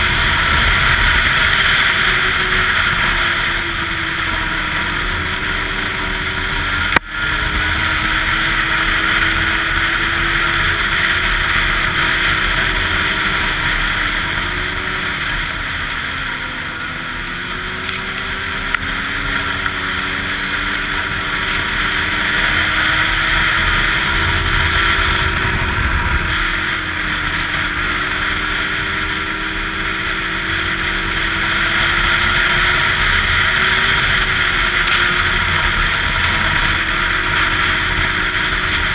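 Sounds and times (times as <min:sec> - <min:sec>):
snowmobile engine running: 0:00.0 - 0:38.9
track and snow rushing: 0:00.0 - 0:38.9.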